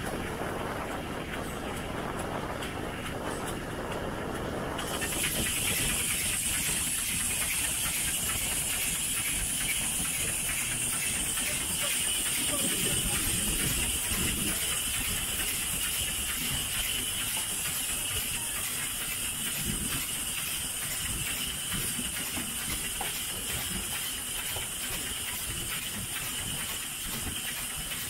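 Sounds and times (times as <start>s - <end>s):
steam hissing: 0.0s - 28.0s
steam locomotive rumbling: 0.0s - 28.0s.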